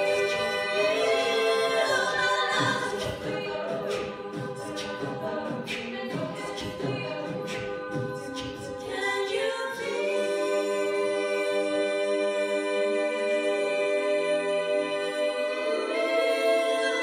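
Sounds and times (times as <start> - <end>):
women singing harmonies: 0.0 - 17.0.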